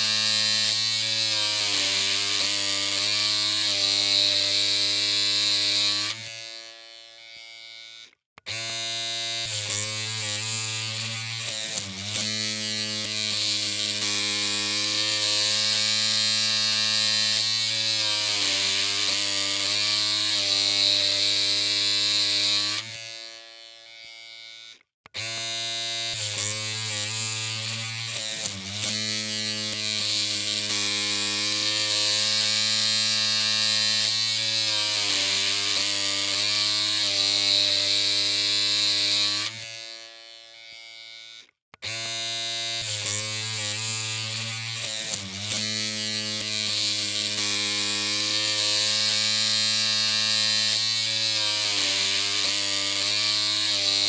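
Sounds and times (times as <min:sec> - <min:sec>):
electric hair clippers humming: 0:00.0 - 0:54.0.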